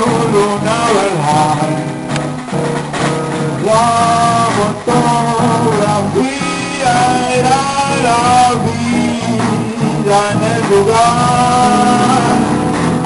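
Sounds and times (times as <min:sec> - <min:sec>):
guitar: 0:00.0 - 0:13.0
walking bass line: 0:00.0 - 0:13.0.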